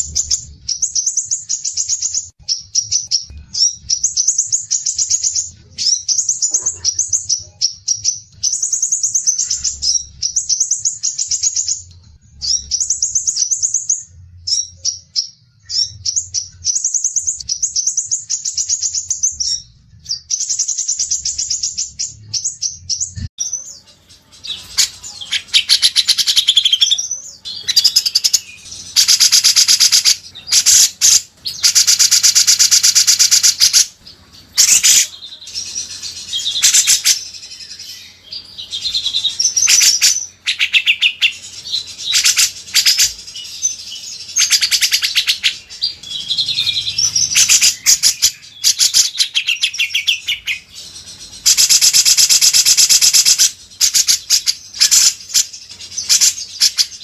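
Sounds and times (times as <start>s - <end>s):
songbirds singing trills: 0.0s - 57.0s.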